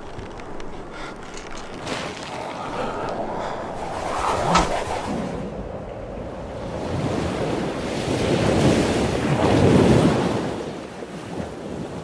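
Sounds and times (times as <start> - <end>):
ocean wave washing: 0.0 - 9.9.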